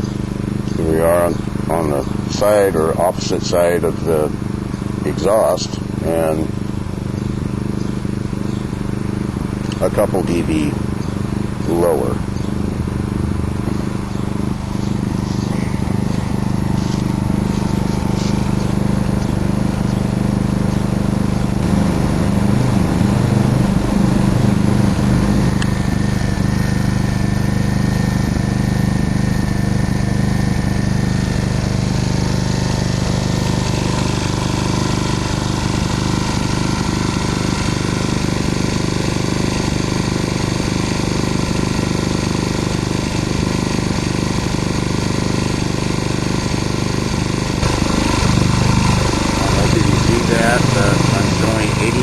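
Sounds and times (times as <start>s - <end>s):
generator engine humming: 0.0s - 52.0s.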